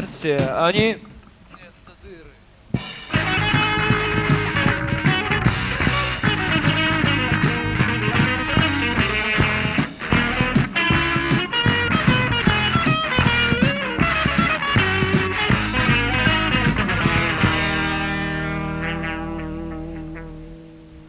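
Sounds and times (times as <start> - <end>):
drum hits: 0.0 - 1.6, 2.6 - 20.2
rock band instrumental: 0.0 - 1.6, 2.5 - 21.0.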